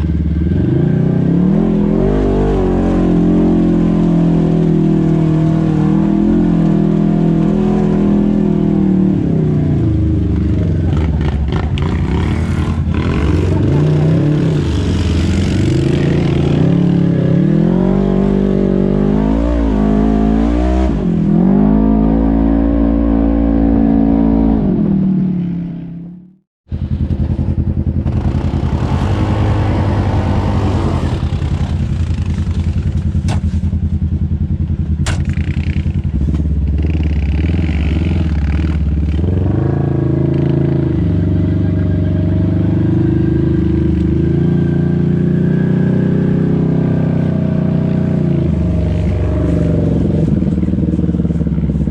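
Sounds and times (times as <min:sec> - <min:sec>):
off-road vehicle engine revving: 0:00.0 - 0:33.9, 0:34.5 - 0:51.9.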